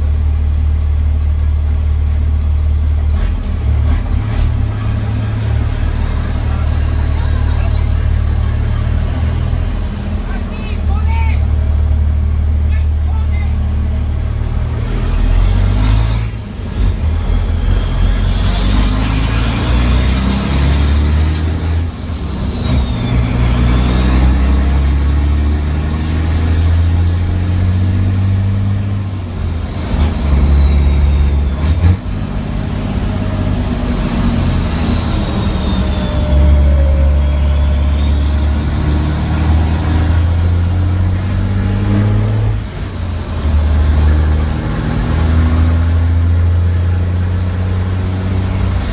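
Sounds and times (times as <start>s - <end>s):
diesel truck engine pulling hard: 0.0s - 48.9s
high engine whine: 0.0s - 48.9s.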